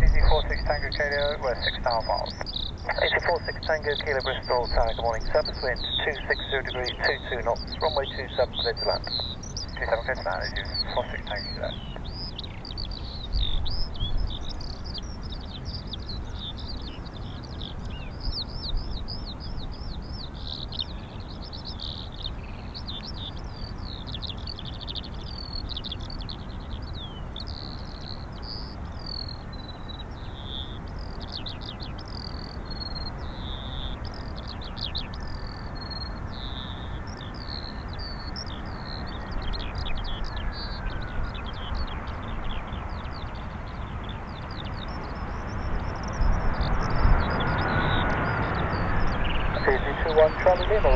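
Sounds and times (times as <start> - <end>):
wind gusting on microphone: 0.0 - 21.4, 30.8 - 50.9
distant jet whine: 0.0 - 50.9
small birds chirping: 0.0 - 50.9.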